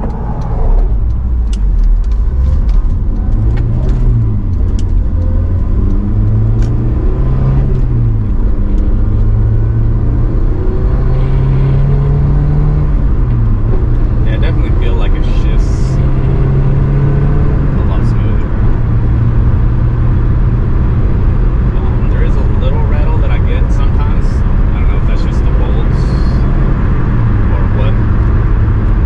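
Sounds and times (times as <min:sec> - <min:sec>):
car engine accelerating through gears: 0:00.0 - 0:29.0.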